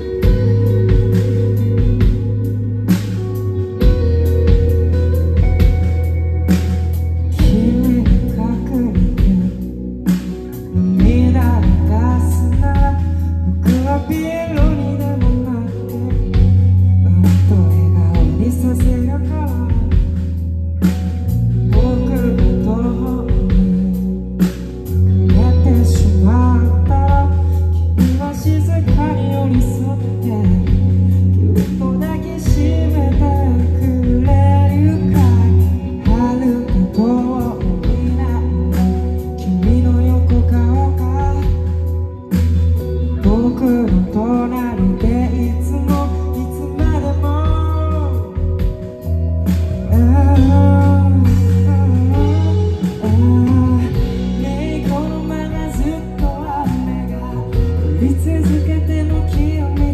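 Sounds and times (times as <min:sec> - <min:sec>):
man singing lead vocal: 0:00.0 - 0:59.9
rock band playing live: 0:00.0 - 0:59.9.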